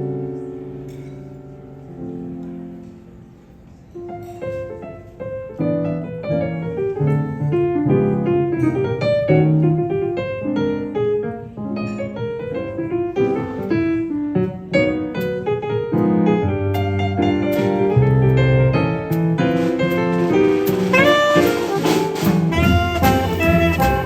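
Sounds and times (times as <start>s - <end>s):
jazz blues piano: 0.0s - 24.0s.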